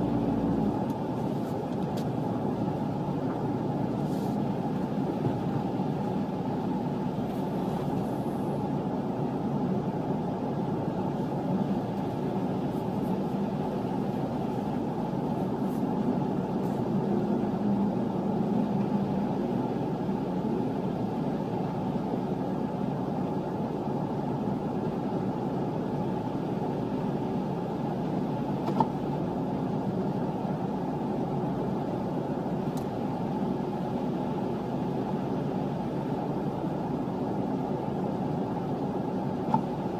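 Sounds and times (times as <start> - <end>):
car engines idling: 0.0 - 39.9.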